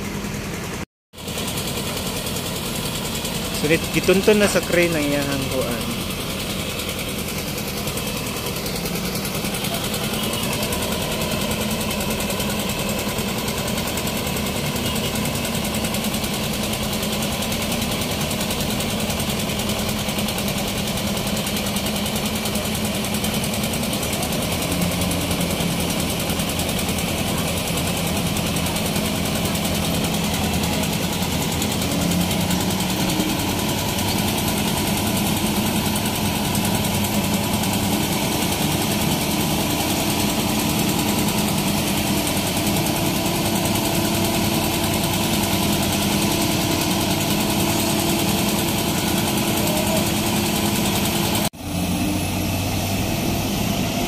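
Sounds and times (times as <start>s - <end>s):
crane diesel engine running: 0.0s - 54.0s.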